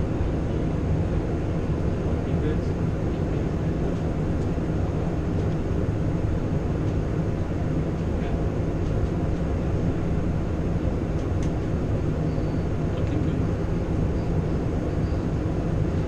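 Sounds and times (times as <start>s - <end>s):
engine and airflow rumble: 0.0s - 16.0s.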